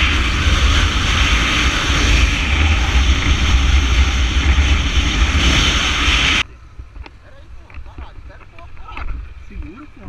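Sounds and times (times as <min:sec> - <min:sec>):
wind rushing on microphone: 0:00.0 - 0:10.0.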